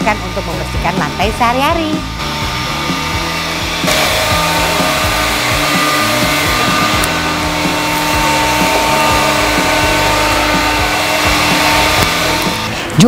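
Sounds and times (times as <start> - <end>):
background music: 0.0 - 13.0
stick vacuum running: 0.0 - 13.0.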